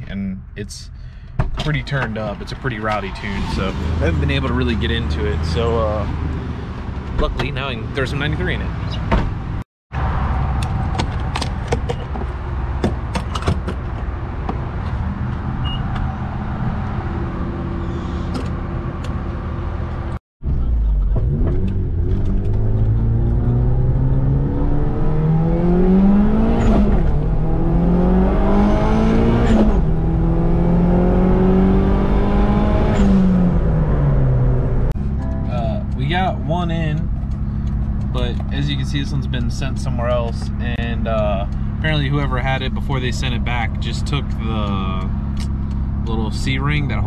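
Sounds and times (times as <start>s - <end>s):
car engine revving: 1.7s - 11.3s, 14.2s - 47.0s.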